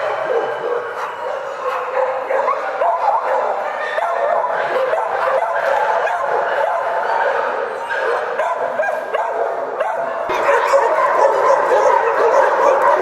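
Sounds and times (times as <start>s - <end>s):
dogs whimpering: 0.0s - 9.4s, 10.3s - 13.0s
dogs barking and yipping: 0.0s - 13.0s.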